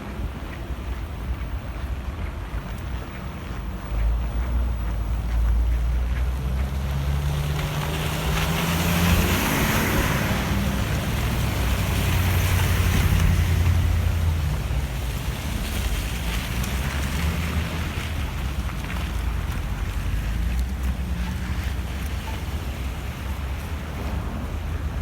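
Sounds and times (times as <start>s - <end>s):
low traffic rumble: 0.0s - 25.0s
tyres hissing on wet road: 0.0s - 25.0s
vehicle engine: 0.0s - 25.0s.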